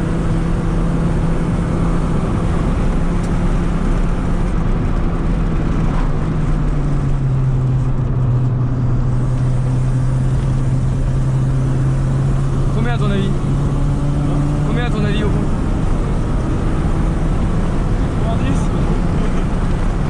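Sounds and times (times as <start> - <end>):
car engine with holed exhaust: 0.0 - 20.0.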